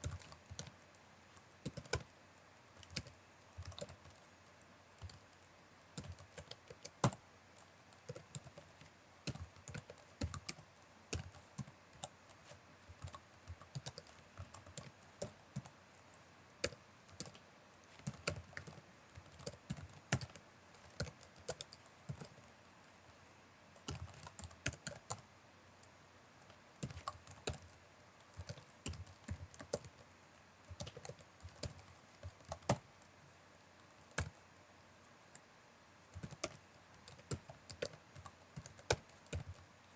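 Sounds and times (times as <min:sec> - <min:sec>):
computer keyboard typing: 0:00.0 - 0:02.1, 0:02.8 - 0:15.8, 0:16.6 - 0:22.5, 0:23.8 - 0:33.1, 0:33.8 - 0:34.4, 0:36.1 - 0:39.9.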